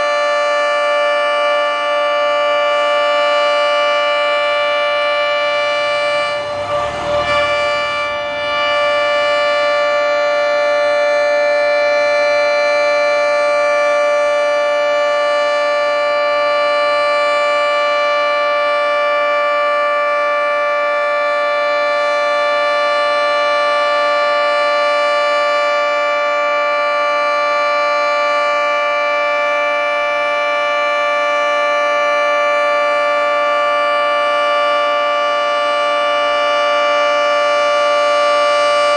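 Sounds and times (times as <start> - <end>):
three-tone warning siren chord: 0.0 - 38.9.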